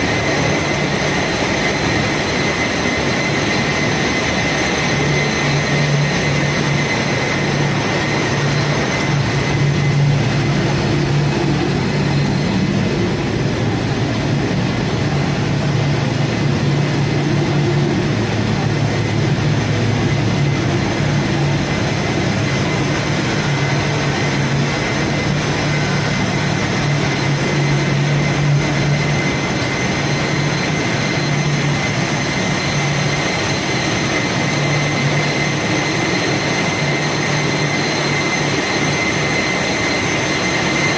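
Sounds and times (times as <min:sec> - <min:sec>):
engine room machinery drone: 0:00.0 - 0:40.9
steady high whine: 0:00.0 - 0:40.9.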